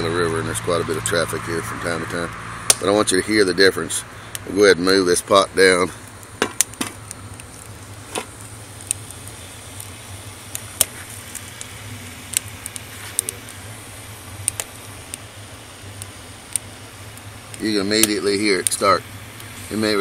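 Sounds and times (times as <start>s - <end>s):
coffee pot ticking and crackling: 0.0s - 20.0s
steady low hum: 0.0s - 20.0s.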